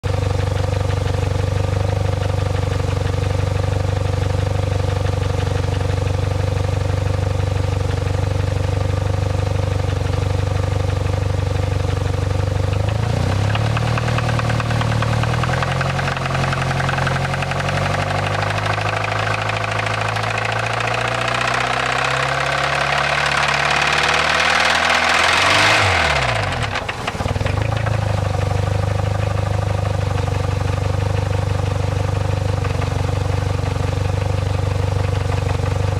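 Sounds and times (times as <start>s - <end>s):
car engine idling and revving: 0.0s - 35.9s
engine knocking: 0.0s - 35.9s.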